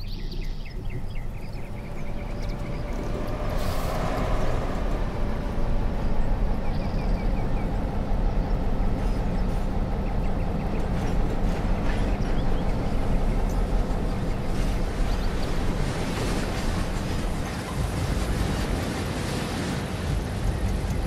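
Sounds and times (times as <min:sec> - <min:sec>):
fluttering low rumble: 0:00.1 - 0:21.0.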